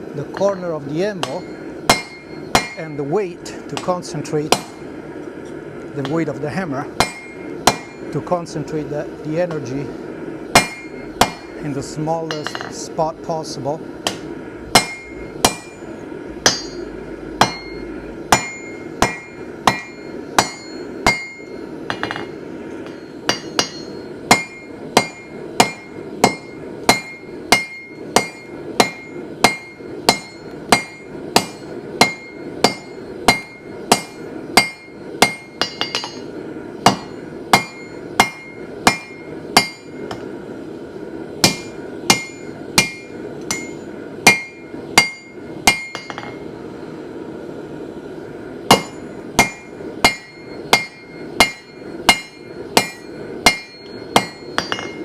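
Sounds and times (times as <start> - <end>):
hammer striking steel on anvil: 0.2 - 4.9, 6.0 - 6.4, 7.0 - 8.3, 10.5 - 12.9, 14.0 - 40.3, 41.4 - 46.5, 48.7 - 55.0.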